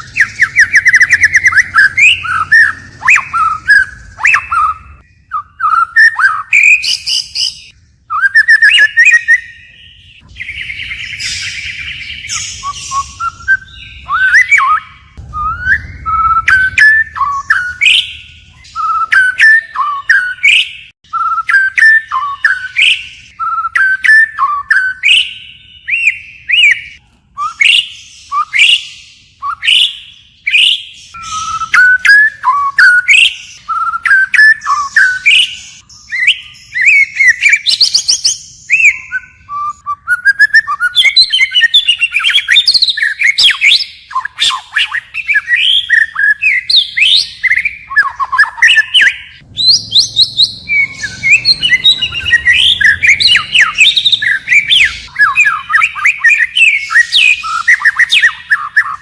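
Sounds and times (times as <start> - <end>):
bird singing whistled phrases: 0.0 - 59.0.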